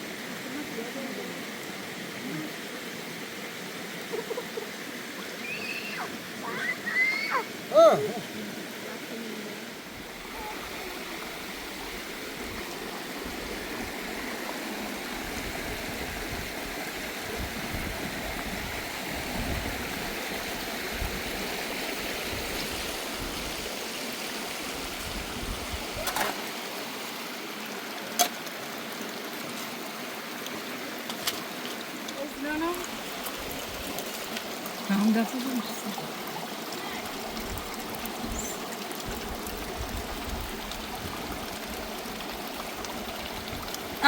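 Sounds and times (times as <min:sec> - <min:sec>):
running water rushing: 0:00.0 - 0:44.0.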